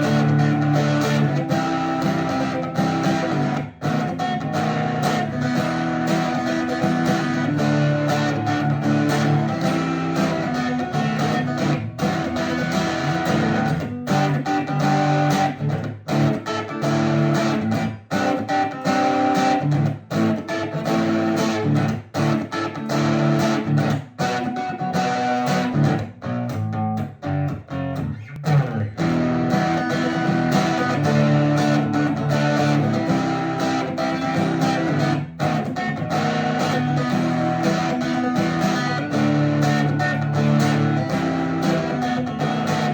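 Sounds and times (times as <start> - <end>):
acoustic guitar chords: 0.0 - 42.9.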